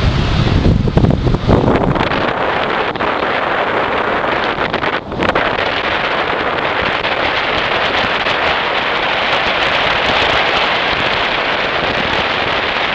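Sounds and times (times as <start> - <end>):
road noise: 0.0 - 12.9
wind buffeting microphone: 0.0 - 12.9.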